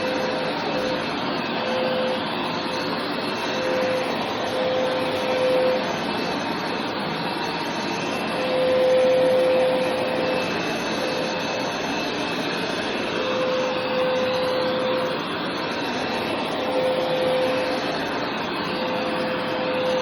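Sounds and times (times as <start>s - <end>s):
carpet cleaner motor whirring: 0.0s - 20.0s.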